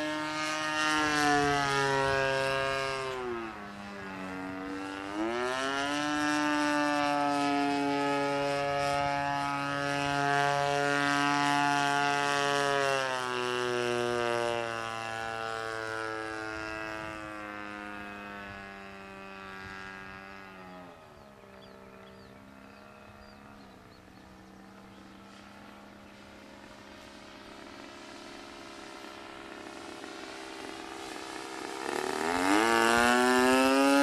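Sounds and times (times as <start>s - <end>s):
model plane engine buzzing: 0.0s - 34.0s.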